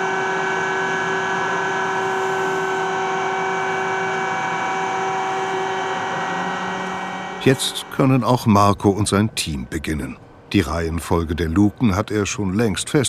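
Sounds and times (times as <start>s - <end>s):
machinery whining tones: 0.0s - 11.2s
crane machinery loud drone: 0.0s - 13.0s.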